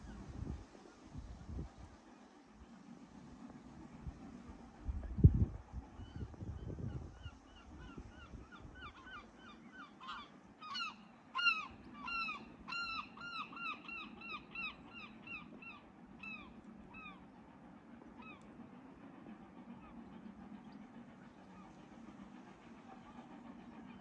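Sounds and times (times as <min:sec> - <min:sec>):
faint low wind rumble: 0:00.0 - 0:24.0.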